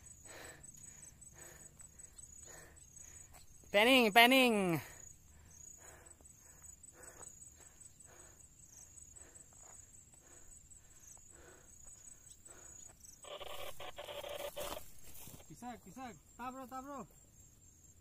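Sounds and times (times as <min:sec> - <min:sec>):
insect chirping: 0:00.0 - 0:18.0.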